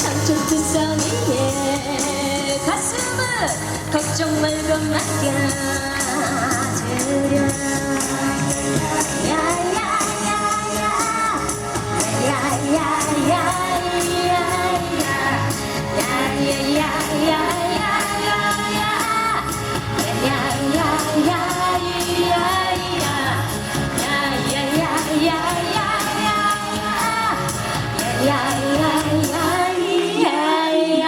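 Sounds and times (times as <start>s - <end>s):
upbeat song with drum beat: 0.0s - 30.5s.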